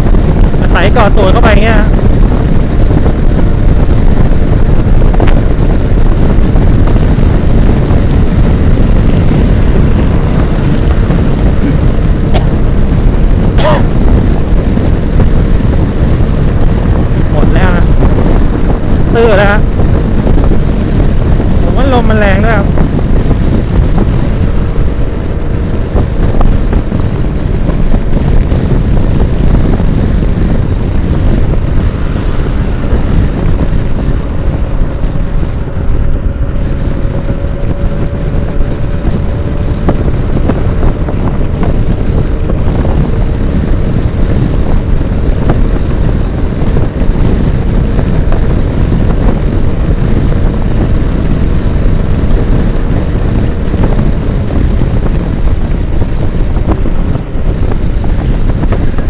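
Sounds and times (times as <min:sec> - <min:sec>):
scooter engine drone: 0:00.0 - 0:59.0
wind rushing over microphone: 0:00.0 - 0:59.0.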